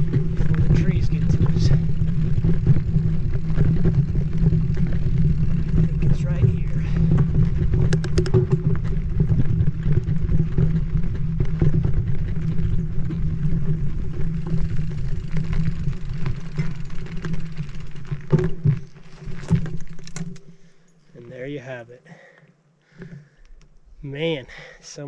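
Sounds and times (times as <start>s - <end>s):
bike tyres rumbling on dirt: 0.0s - 23.4s
bike rattling over rough trail: 0.0s - 23.5s.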